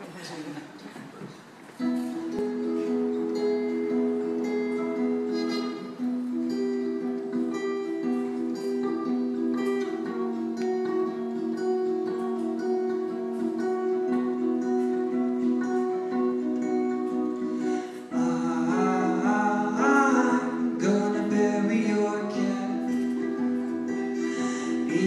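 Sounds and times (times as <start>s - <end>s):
live band playing: 1.8s - 25.0s
plucked string instrument melody: 1.8s - 25.0s.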